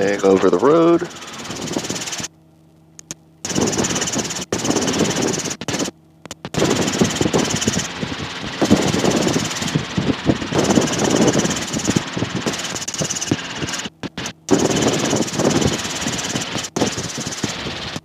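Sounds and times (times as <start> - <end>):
helicopter engine and rotor noise: 0.0 - 18.0.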